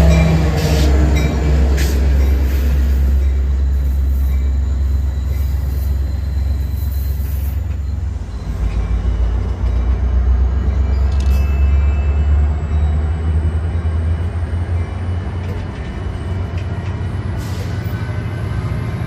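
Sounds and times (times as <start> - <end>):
train passing rumble: 0.0 - 19.0.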